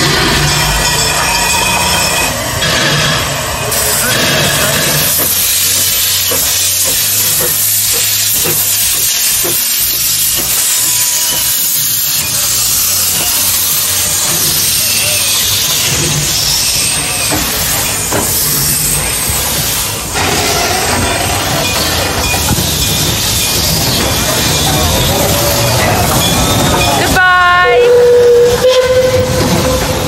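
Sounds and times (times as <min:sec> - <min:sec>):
steam locomotive venting steam: 0:00.0 - 0:30.0.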